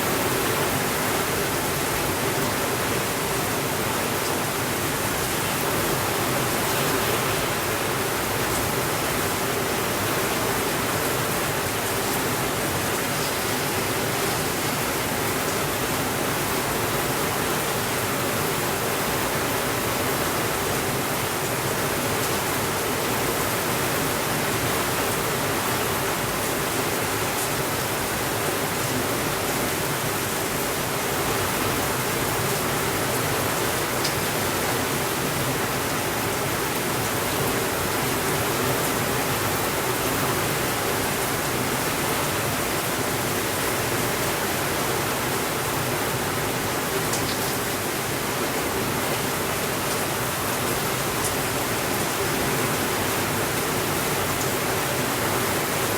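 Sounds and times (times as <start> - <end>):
steady rainfall: 0.0 - 55.9.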